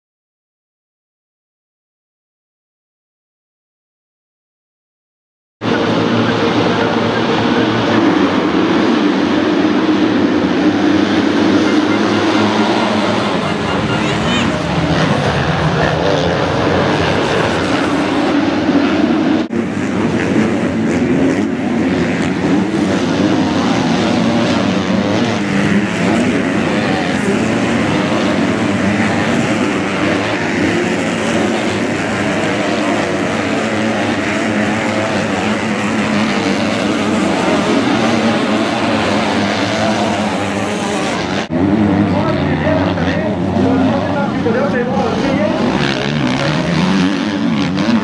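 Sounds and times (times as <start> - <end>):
motocross bike engines racing: 5.6 - 48.0.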